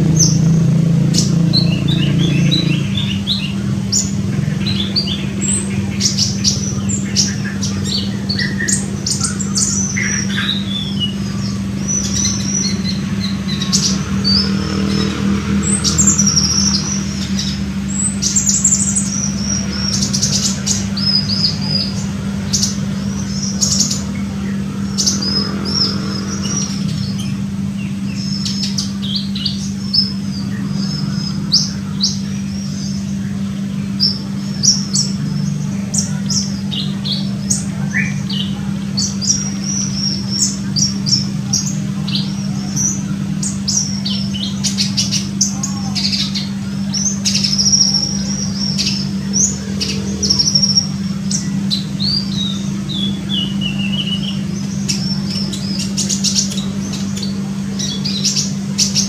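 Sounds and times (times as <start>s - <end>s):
bird chirps and trills: 0.0s - 59.0s
steady low hum: 0.0s - 59.0s.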